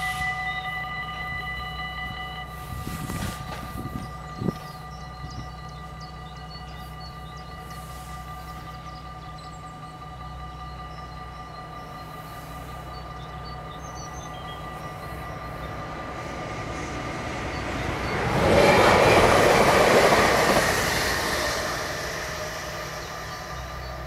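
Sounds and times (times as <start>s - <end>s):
train rolling past: 0.0s - 24.0s.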